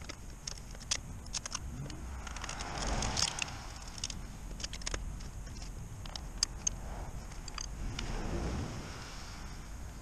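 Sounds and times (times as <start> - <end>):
rush of noise: 0.0 - 10.0.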